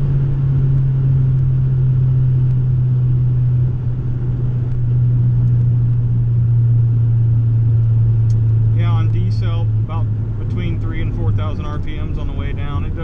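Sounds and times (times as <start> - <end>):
deep exhaust drone: 0.0 - 13.0
road noise: 0.0 - 13.0.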